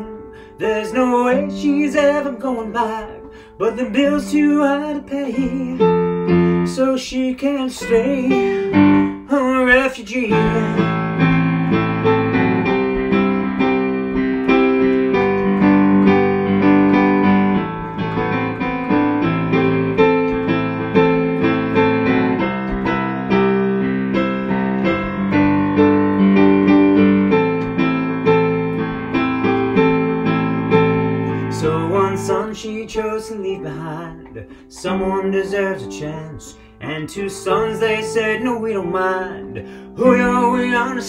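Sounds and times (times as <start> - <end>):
piano playing chords: 0.0 - 41.0.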